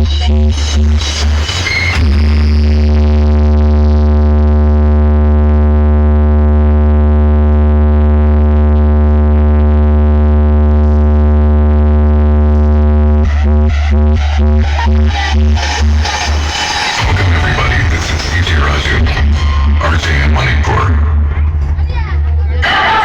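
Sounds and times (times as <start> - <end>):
deep synth tone: 1.9 - 23.0.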